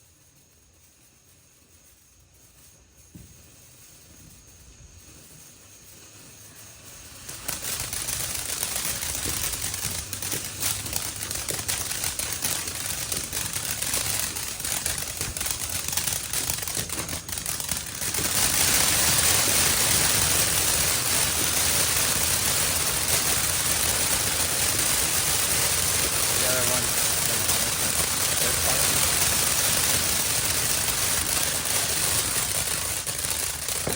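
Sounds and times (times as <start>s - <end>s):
firework fountain hissing and crackling: 0.0s - 33.9s.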